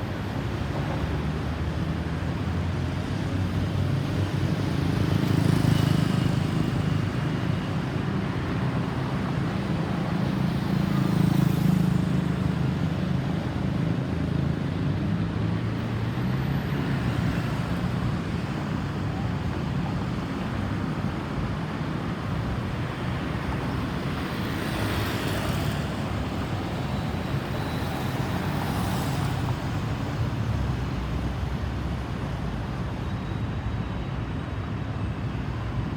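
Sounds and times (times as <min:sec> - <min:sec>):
vehicles driving past: 0:00.0 - 0:35.9.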